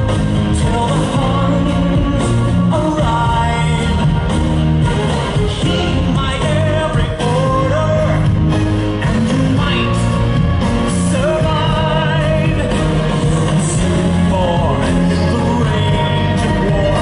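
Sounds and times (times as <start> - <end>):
recorded song over loudspeakers: 0.0 - 17.0.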